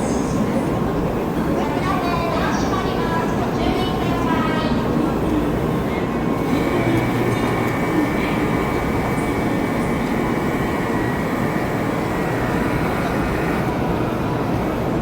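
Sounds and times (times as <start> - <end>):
train rumble with high whine: 0.0 - 15.0.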